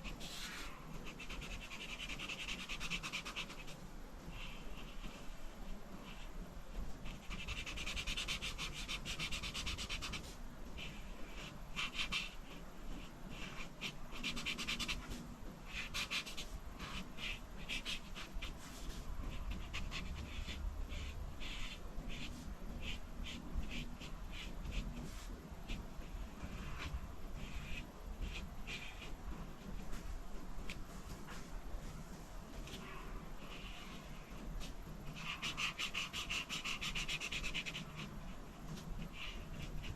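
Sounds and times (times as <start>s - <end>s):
drawing tool scratching on paper: 0.0s - 5.4s, 7.0s - 31.5s, 32.5s - 39.9s.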